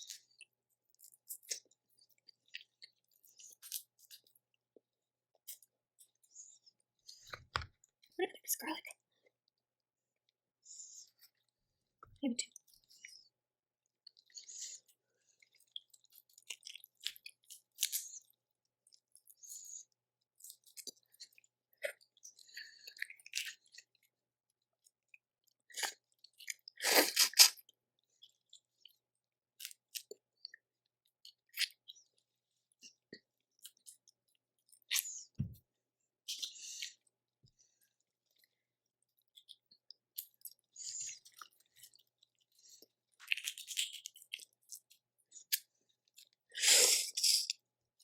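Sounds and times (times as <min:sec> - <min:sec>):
chewing and wet mouth sounds: 0:00.0 - 0:48.0.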